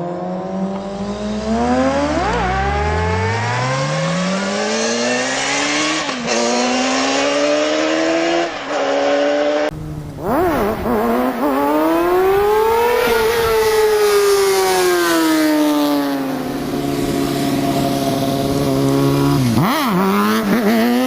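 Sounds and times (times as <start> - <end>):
motorcycle accelerating through gears: 0.0 - 21.0
motorcycle revving unevenly: 0.0 - 21.0.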